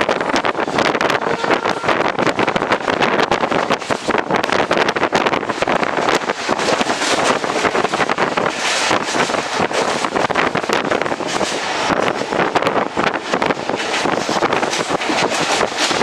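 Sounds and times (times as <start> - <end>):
train running noise: 0.0 - 16.0
wheels clattering and rattling: 2.7 - 16.0.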